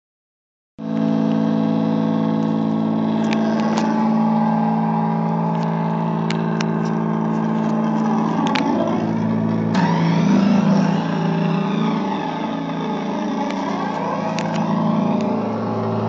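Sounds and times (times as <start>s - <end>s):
electric guitar feedback drone: 0.8s - 16.0s.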